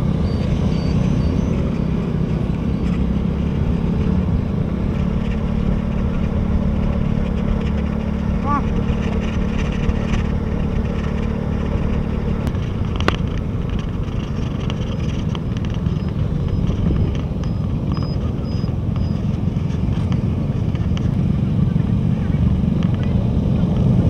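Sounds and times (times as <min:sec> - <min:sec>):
motorbike engine rumble: 0:00.0 - 0:24.0
other motorbikes: 0:00.0 - 0:24.0
road and wind noise: 0:00.0 - 0:24.0.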